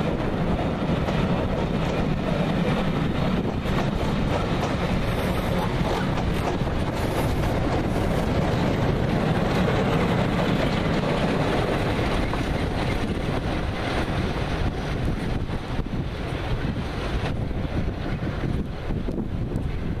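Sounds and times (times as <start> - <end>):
train rumbling past on rails: 0.0 - 20.0
wind buffeting microphone: 0.0 - 20.0.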